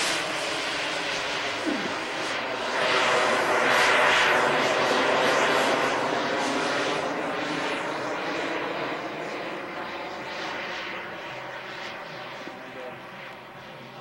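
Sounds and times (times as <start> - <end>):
model airplane engine and propeller: 0.0 - 14.0.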